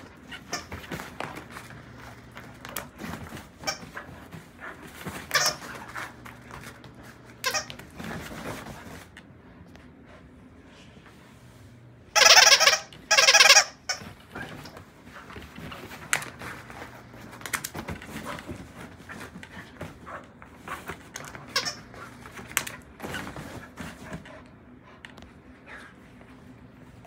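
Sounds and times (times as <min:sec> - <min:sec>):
bedding rustling: 0:00.0 - 0:09.6, 0:13.8 - 0:27.0.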